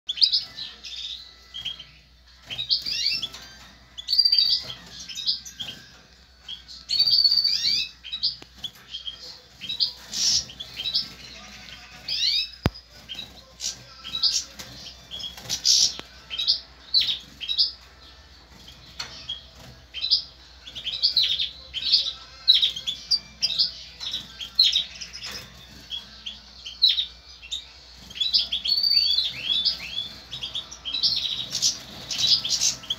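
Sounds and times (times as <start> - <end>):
goldfinch singing: 0.1 - 32.9.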